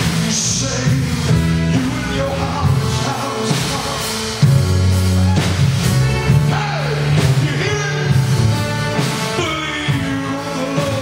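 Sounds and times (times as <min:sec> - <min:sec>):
person singing: 0:00.0 - 0:04.6, 0:05.9 - 0:11.0
gospel band playing: 0:00.0 - 0:11.0.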